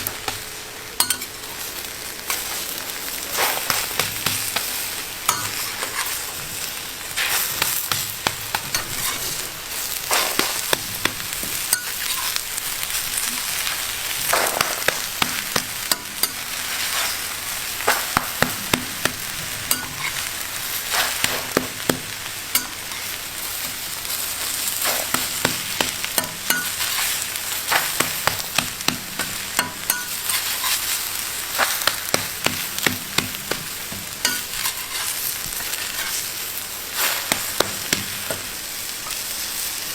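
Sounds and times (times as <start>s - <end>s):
food sizzling: 0.0s - 39.9s
cooking utensil clicking and scraping: 1.0s - 1.4s, 3.3s - 36.4s, 37.0s - 39.3s.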